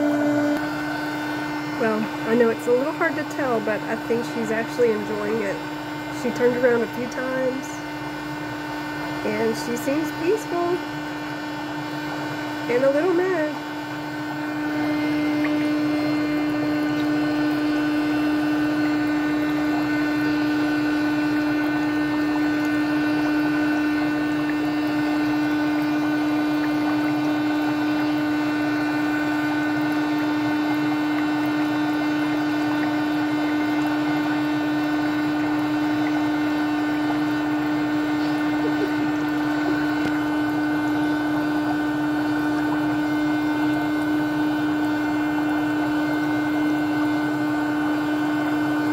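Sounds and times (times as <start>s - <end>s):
water bubbling and churning: 0.0s - 7.2s, 7.8s - 48.9s
foot spa motor humming: 0.0s - 48.9s.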